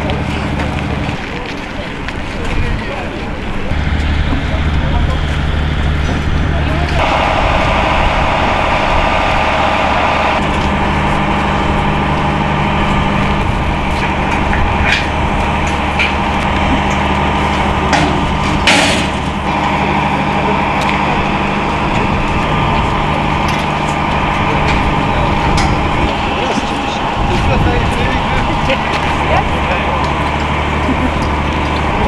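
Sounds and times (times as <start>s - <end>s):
heavy machinery engine running: 0.0s - 32.0s.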